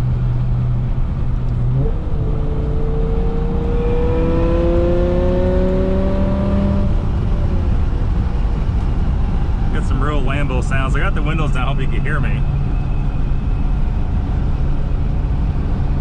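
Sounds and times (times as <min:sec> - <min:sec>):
car engine accelerating: 0:00.0 - 0:16.0
road and wind noise: 0:00.0 - 0:16.0.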